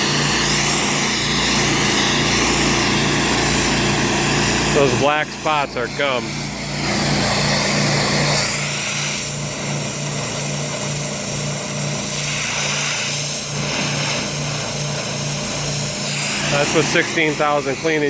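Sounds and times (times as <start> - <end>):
pressure washer engine drone: 0.0 - 18.0
water jet hissing on concrete: 0.0 - 18.0.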